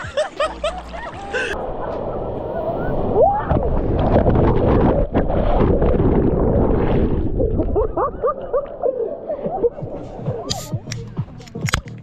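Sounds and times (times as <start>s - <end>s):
strong wind buffeting microphone: 1.1s - 11.4s.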